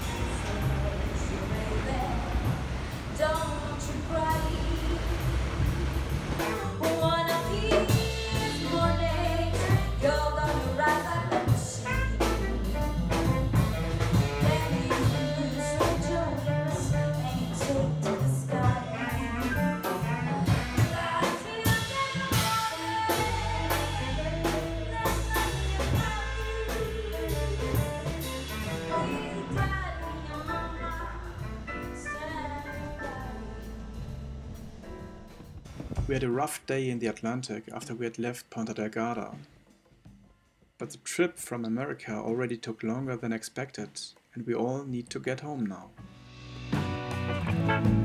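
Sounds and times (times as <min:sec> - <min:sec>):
jazz music with singer: 0:00.0 - 0:39.7, 0:40.8 - 0:48.0.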